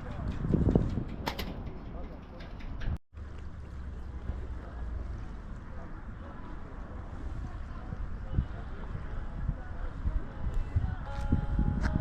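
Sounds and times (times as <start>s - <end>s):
wind buffeting microphone: 0.0s - 3.0s, 3.6s - 12.0s.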